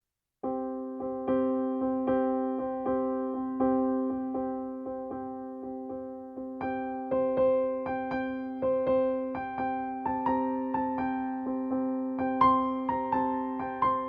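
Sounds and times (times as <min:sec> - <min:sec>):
gentle electric piano: 0:00.4 - 0:14.0.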